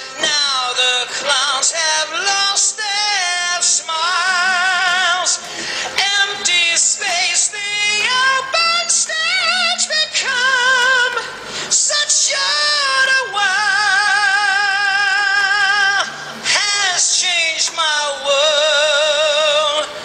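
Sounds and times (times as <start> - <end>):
man singing rock vocal: 0.0 - 20.0.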